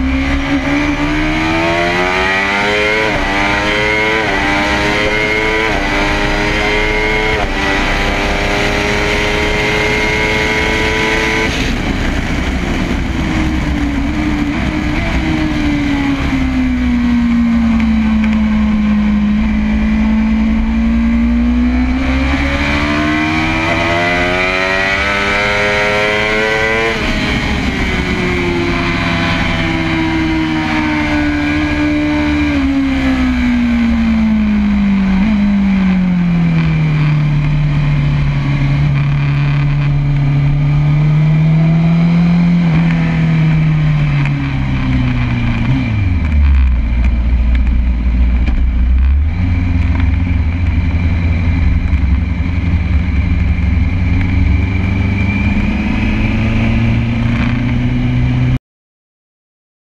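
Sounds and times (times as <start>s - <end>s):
motorcycle engine revving: 0.0s - 58.6s
wind noise: 0.0s - 58.6s.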